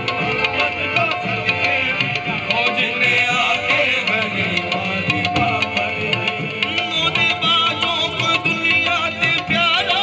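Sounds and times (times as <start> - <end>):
harmonium: 0.0 - 10.0
men singing with ornamented notes: 0.0 - 10.0
steady drum beat: 0.0 - 10.0.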